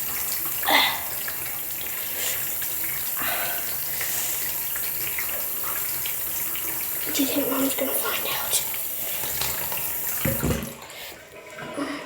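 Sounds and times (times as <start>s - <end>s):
tap water running into sink: 0.0s - 11.8s.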